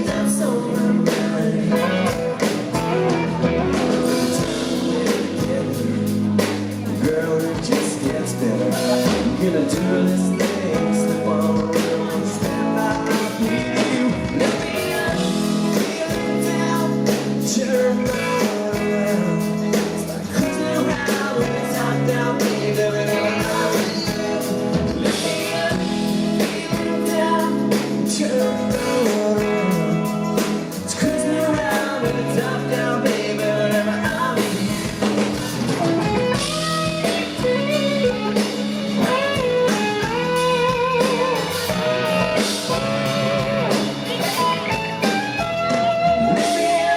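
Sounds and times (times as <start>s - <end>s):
country rock band playing live: 0.0s - 46.9s
guitar lead with bent notes: 0.0s - 46.9s
person singing: 0.0s - 46.9s.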